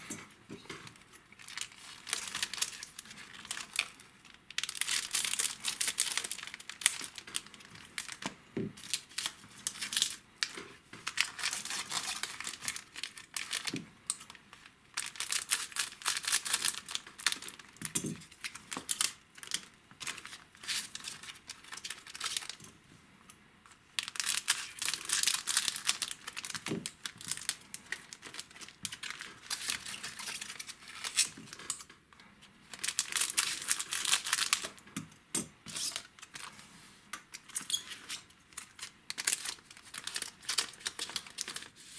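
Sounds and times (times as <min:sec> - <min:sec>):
foil wrappers crinkling: 0:00.9 - 0:22.6, 0:24.0 - 0:31.8, 0:32.7 - 0:34.8, 0:37.4 - 0:41.8.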